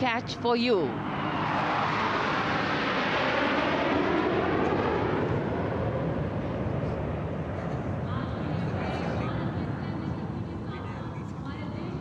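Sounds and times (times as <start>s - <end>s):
jet aircraft roar: 0.0s - 12.0s.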